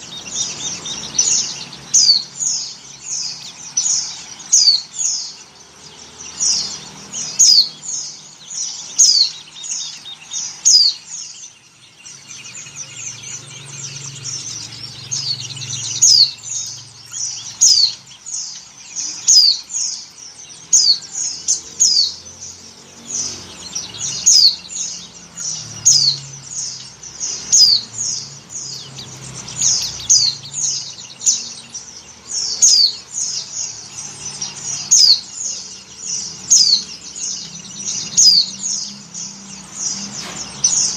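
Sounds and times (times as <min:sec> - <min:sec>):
high downward-sweeping bird chirps: 0:00.0 - 0:40.9.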